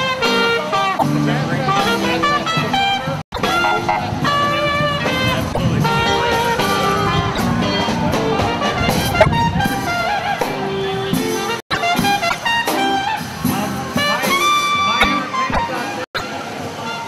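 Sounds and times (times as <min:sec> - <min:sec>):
brass band playing jazz: 0:00.0 - 0:17.0
trumpets: 0:00.0 - 0:17.0.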